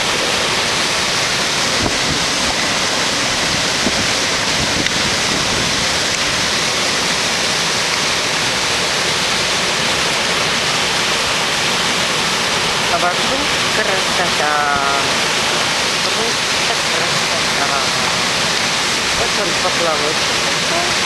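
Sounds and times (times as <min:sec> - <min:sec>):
waterfall and river rushing: 0:00.0 - 0:21.0.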